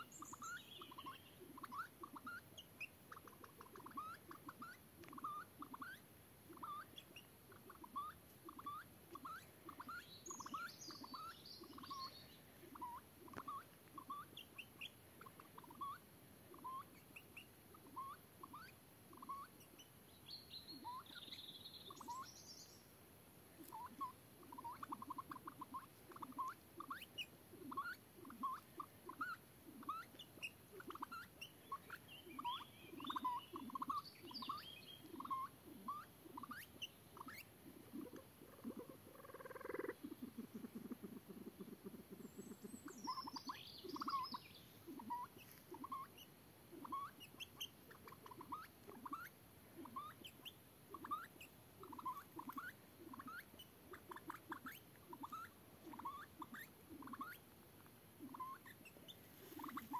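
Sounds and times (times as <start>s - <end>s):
birds chirping: 0.0s - 16.0s, 16.6s - 22.9s, 23.6s - 57.4s
songbird twittering: 0.0s - 22.9s, 23.6s - 57.4s, 58.2s - 59.9s.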